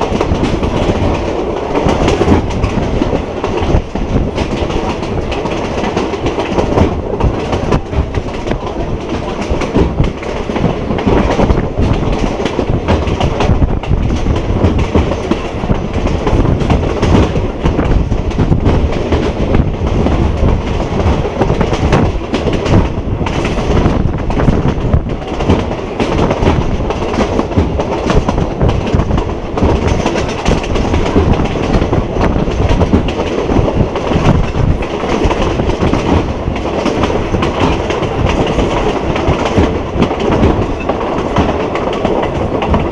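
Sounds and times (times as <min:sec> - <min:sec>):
train rumble: 0:00.0 - 0:42.9
wheels clacking over rail joints: 0:00.0 - 0:42.9.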